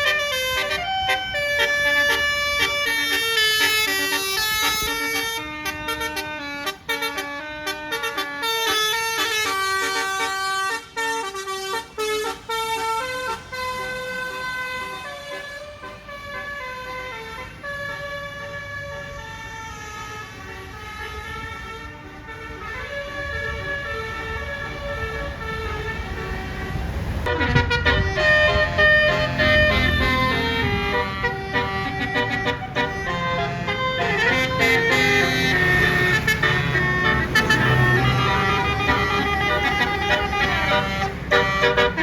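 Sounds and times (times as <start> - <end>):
bus engine rumble: 0.0 - 42.0
bus musical horn melody: 0.0 - 42.0.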